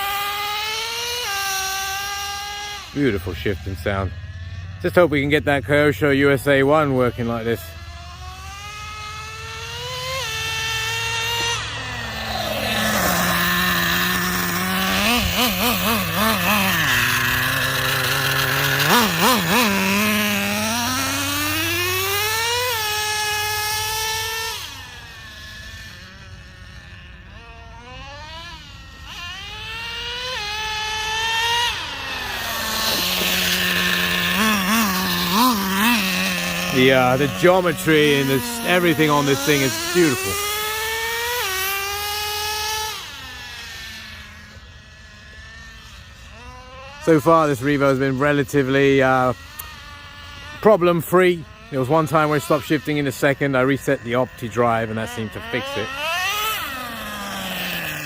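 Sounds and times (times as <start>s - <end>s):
rc truck engine revving: 0.0s - 58.0s.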